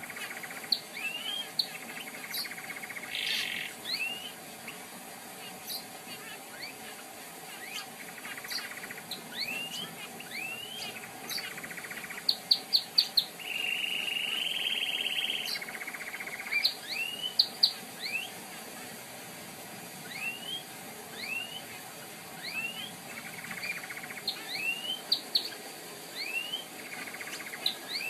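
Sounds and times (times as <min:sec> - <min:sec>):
canary singing: 0:00.0 - 0:04.8, 0:05.4 - 0:18.4, 0:20.0 - 0:21.8, 0:22.4 - 0:28.0.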